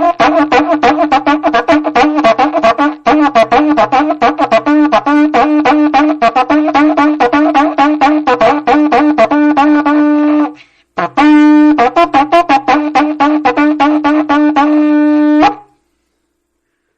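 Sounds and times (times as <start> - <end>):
ox horn blown in pulses: 0.0 - 15.8.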